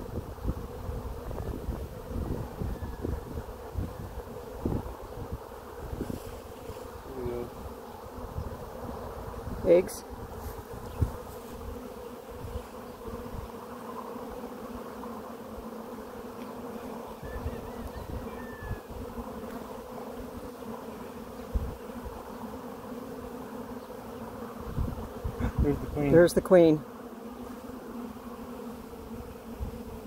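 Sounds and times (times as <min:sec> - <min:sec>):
honey bees buzzing: 0:00.0 - 0:30.0.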